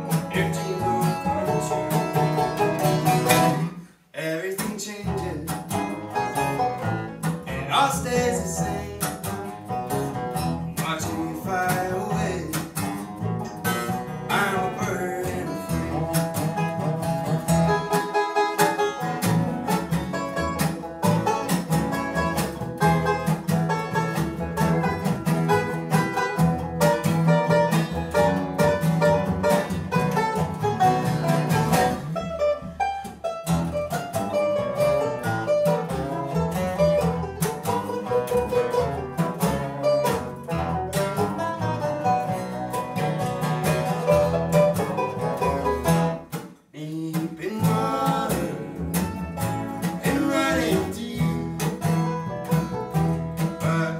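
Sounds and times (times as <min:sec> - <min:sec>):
acoustic guitar picking: 0:00.0 - 0:53.9
banjo picking: 0:00.0 - 0:53.9
dobro picking: 0:00.0 - 0:53.9
upright bass: 0:00.0 - 0:53.9.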